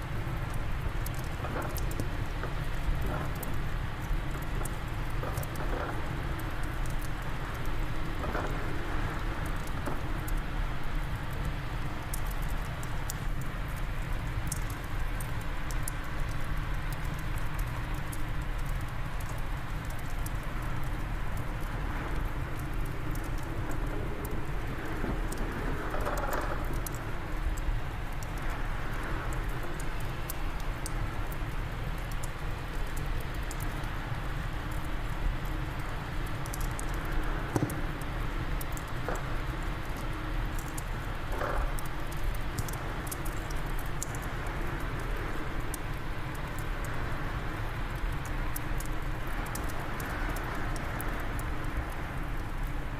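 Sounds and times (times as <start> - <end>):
steady wind: 0.0 - 52.9
wood fire crackling: 0.0 - 52.9.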